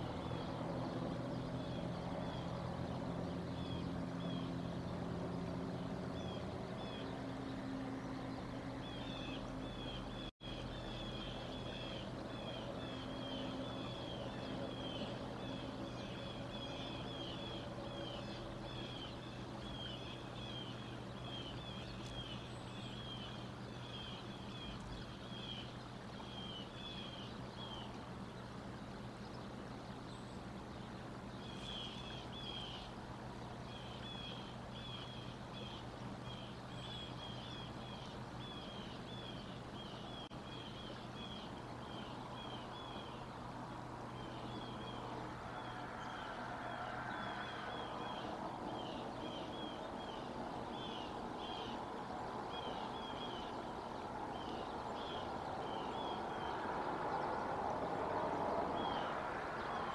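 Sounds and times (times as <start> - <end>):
low motor hum: 0.0 - 51.3.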